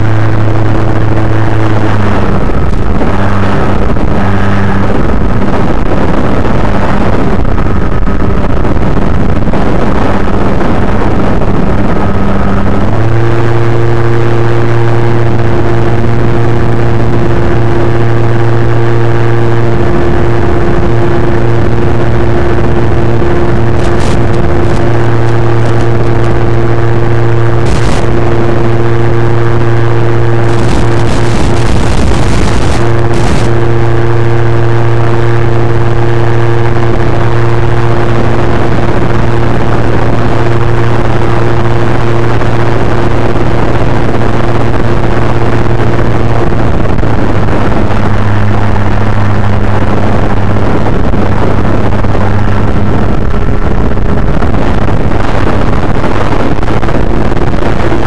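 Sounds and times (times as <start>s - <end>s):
crackling radio static: 0.0s - 58.0s
electric motor and propeller buzzing: 0.0s - 58.0s.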